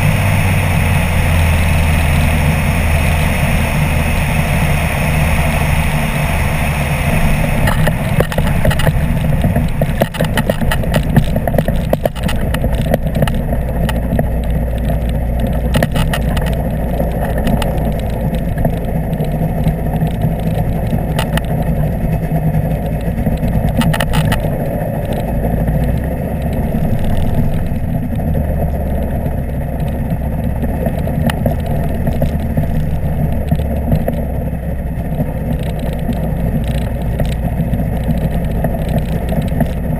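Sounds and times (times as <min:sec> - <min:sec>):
microlight engine and propeller: 0:00.0 - 0:39.9
wheels and airframe clattering: 0:00.0 - 0:39.9.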